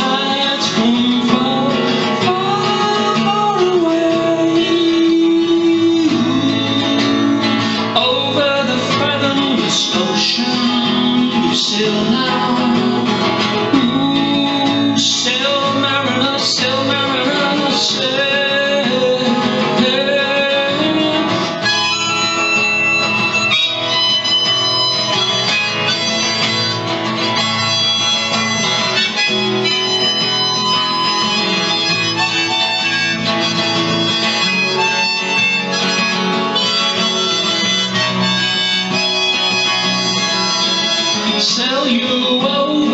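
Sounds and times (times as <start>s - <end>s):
harmonica: 0.0s - 42.9s
strummed acoustic guitar: 0.0s - 42.9s.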